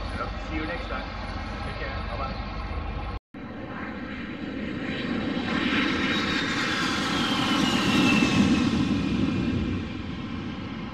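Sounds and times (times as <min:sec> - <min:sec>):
high jet whine: 0:00.0 - 0:10.9
jet aircraft passing: 0:00.0 - 0:10.9.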